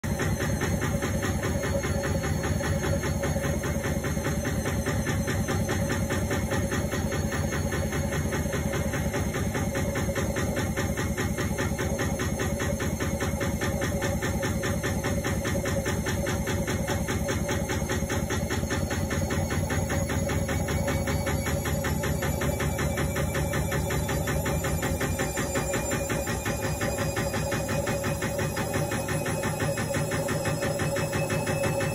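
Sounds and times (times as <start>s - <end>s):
washing machine running: 0.0s - 31.9s.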